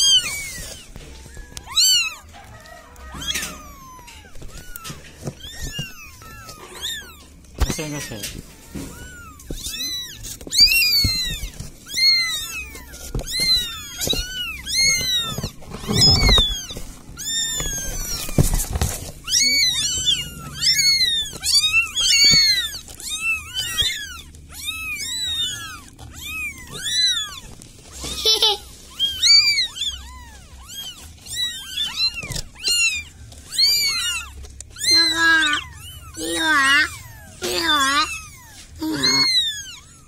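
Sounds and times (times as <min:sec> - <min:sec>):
kittens mewing: 0:00.0 - 0:40.0.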